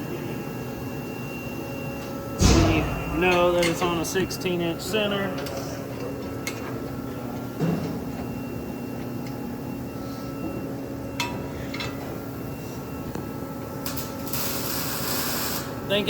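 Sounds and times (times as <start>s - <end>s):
workshop background hum: 0.0s - 16.0s.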